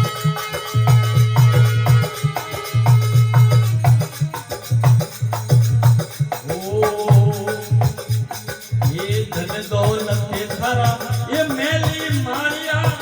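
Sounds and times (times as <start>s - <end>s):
clacking and jingling percussion: 0.0s - 13.0s
low hand-drum beat: 0.0s - 13.0s.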